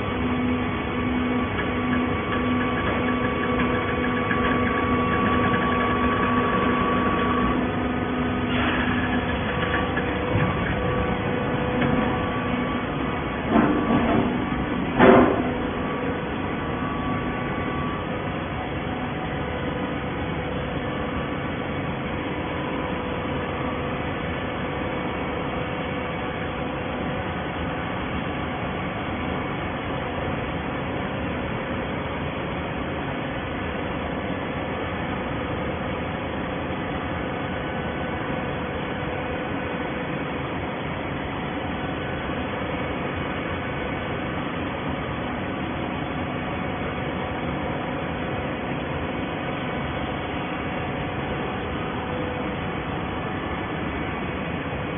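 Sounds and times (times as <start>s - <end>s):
baler machine humming and hissing: 0.0s - 54.9s.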